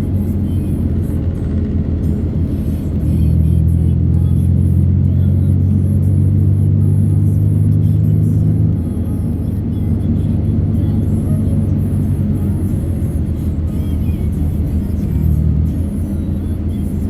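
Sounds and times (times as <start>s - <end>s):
car driving rumble: 0.0s - 17.0s
music from car stereo: 0.0s - 17.0s.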